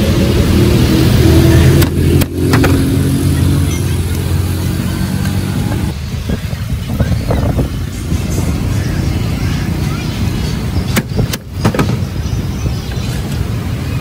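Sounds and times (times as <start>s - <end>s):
motor vehicle engine running: 0.0s - 14.0s.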